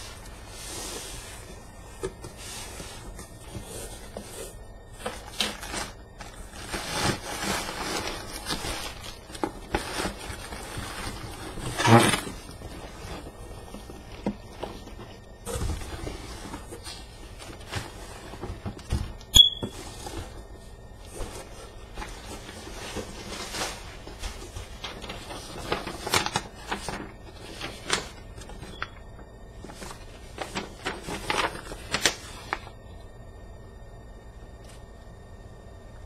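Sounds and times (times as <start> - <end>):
packaging scraping and rustling: 0.0 - 32.8.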